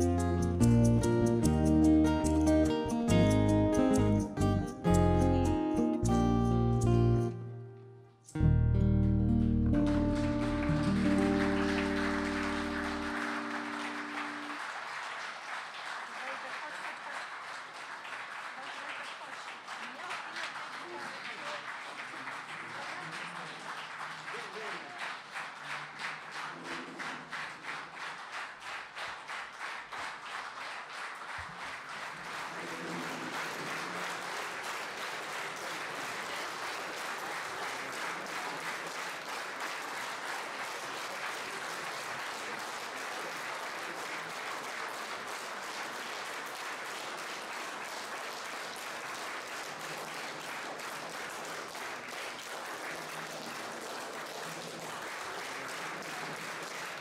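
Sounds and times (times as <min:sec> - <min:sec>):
audience applauding: 0:00.0 - 0:06.5, 0:09.6 - 0:57.0.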